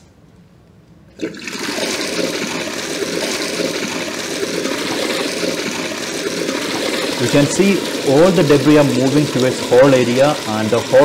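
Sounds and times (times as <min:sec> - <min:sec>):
water rushing through pipes: 0:01.2 - 0:11.0.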